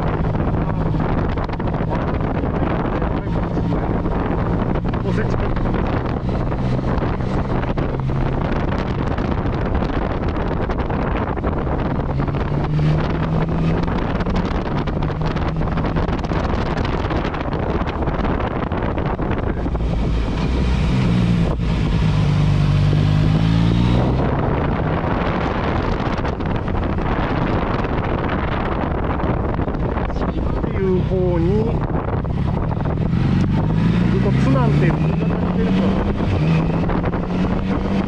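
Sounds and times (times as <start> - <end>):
motorcycle engine revving: 0.0 - 38.0
wind rushing over microphone: 0.0 - 38.0.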